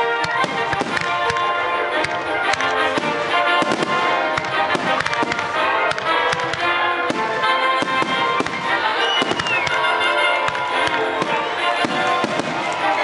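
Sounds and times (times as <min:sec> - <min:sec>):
fireworks bursting and crackling: 0:00.0 - 0:13.0
loud music: 0:00.0 - 0:13.0.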